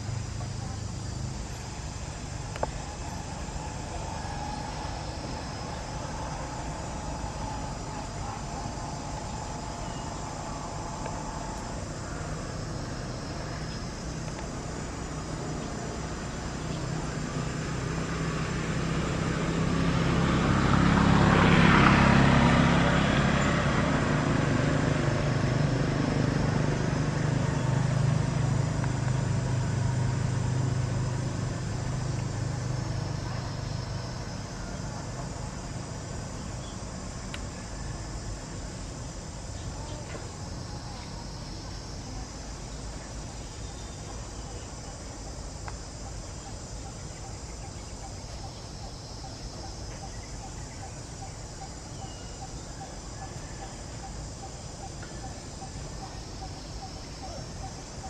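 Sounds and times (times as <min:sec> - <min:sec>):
passing vehicle engine hum: 0:00.0 - 0:58.0.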